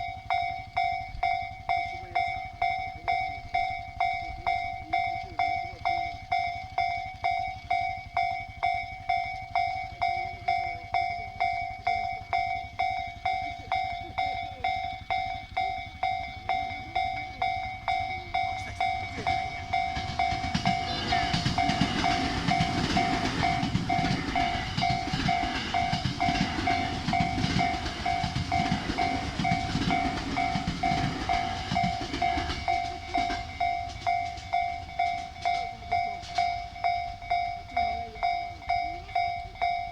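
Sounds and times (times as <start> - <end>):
railway crossing bell ringing: 0.0 - 39.9
train wheels clattering: 0.0 - 39.9.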